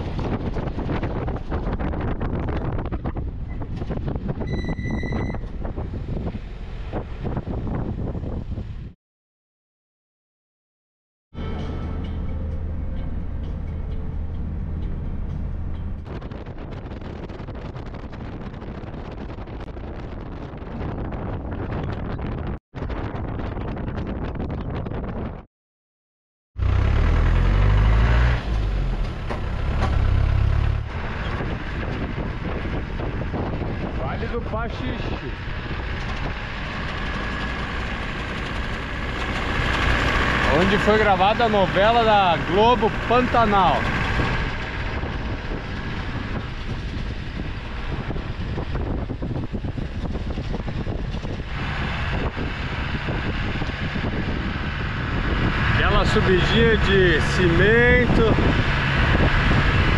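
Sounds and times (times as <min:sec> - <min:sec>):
road noise: 0:00.0 - 0:09.0, 0:11.4 - 0:23.1, 0:26.6 - 0:59.9
vehicle engine deep rumble: 0:00.0 - 0:09.0, 0:11.4 - 0:25.4, 0:26.6 - 0:59.9
wind on microphone: 0:00.0 - 0:09.0, 0:15.1 - 0:25.5, 0:28.0 - 0:59.9.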